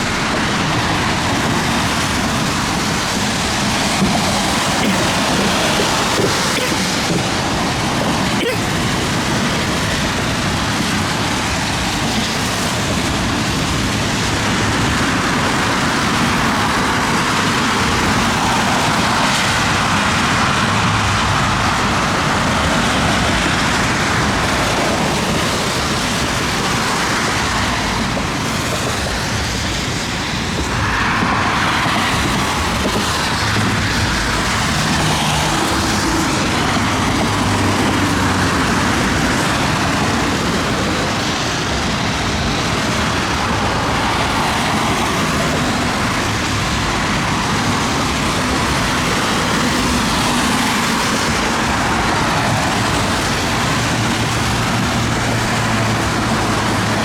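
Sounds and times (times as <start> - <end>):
heavy rain rushing: 0.0 - 57.0
tyres swishing on wet road: 0.0 - 57.0.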